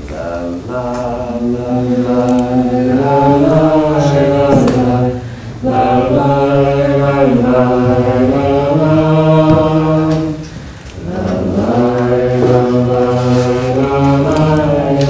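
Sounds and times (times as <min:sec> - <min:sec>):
voices chanting held notes: 0:00.0 - 0:15.0.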